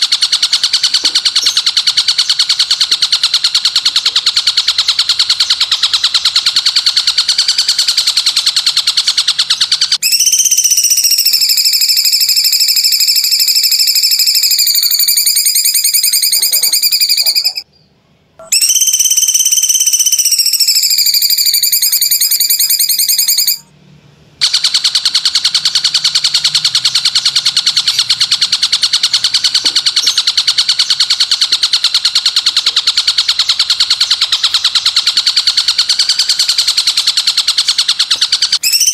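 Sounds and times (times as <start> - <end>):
bird rasping trill: 0.0 - 17.7, 18.4 - 23.7, 24.4 - 38.9.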